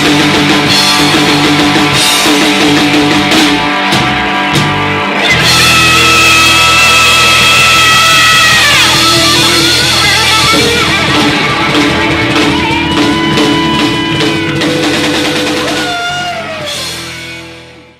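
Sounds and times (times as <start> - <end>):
distorted electric guitar: 0.0 - 17.9
drums and cymbals: 0.0 - 17.9.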